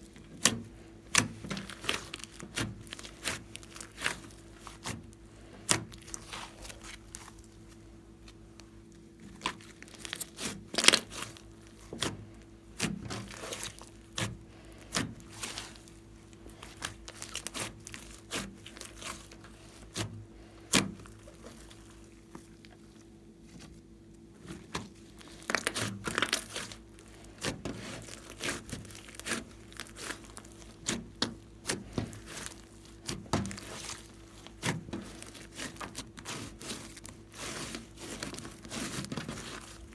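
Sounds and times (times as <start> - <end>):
slime popping and crackling: 0.4 - 7.6, 9.3 - 12.2, 12.8 - 20.0, 24.6 - 39.9.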